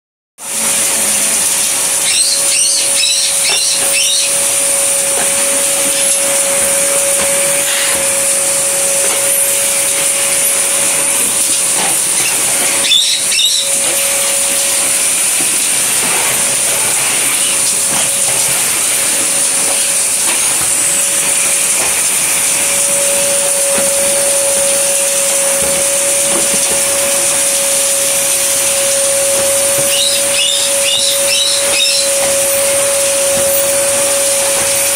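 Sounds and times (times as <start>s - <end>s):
vacuum cleaner running: 0.4s - 34.9s.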